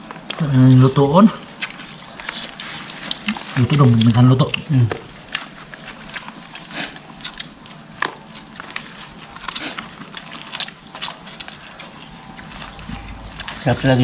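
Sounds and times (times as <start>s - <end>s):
chewing and picking at food: 0.0s - 13.7s.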